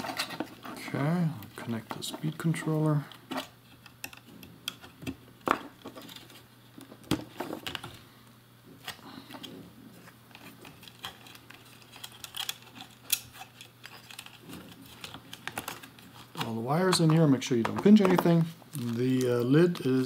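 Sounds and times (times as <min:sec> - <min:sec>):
handling wires and plastic: 0:00.0 - 0:20.0.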